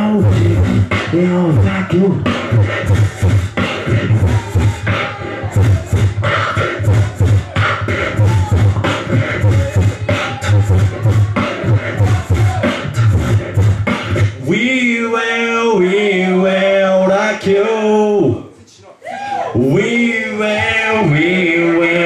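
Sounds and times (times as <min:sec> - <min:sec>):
human beatbox rhythm: 0:00.0 - 0:17.7, 0:19.6 - 0:22.0
held pitched vocal tone: 0:00.0 - 0:18.5.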